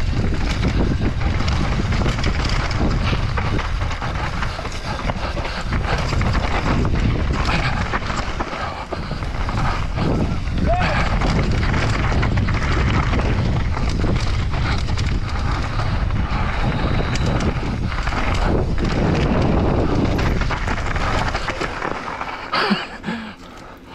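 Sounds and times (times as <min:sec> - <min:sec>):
wind on microphone: 0:00.0 - 0:21.5
bike clattering over bumps: 0:00.0 - 0:23.9
bike tyres rolling over dirt: 0:00.0 - 0:23.9.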